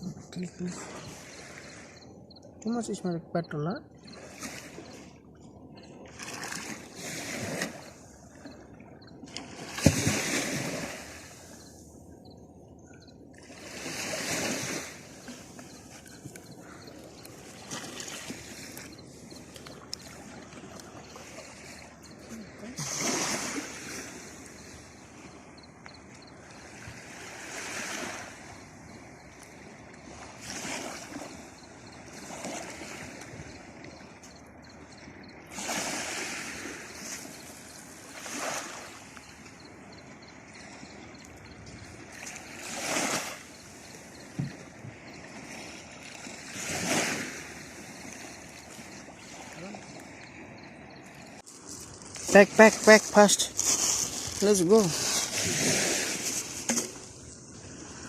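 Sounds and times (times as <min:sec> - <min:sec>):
sea waves on shore: 0:00.0 - 0:58.0
water splashing and sloshing: 0:00.0 - 0:58.0.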